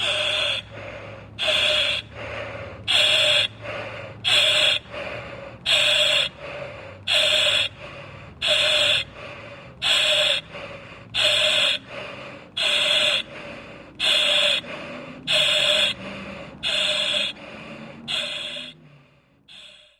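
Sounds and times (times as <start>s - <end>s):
breathing through oxygen mask: 0.0s - 19.9s.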